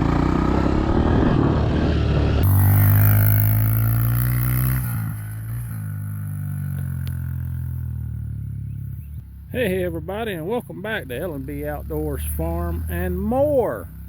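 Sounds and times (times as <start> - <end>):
dirt bike engine idling: 2.4 - 14.0.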